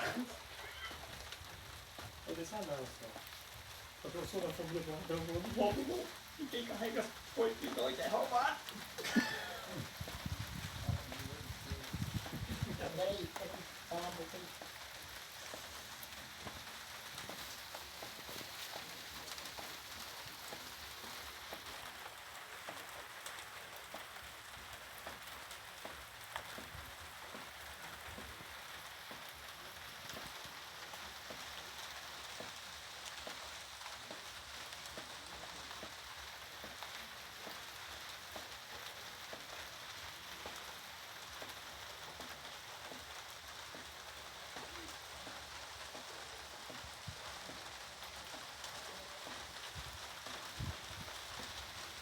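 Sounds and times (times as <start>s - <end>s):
rain pattering on surfaces: 0.0s - 52.0s.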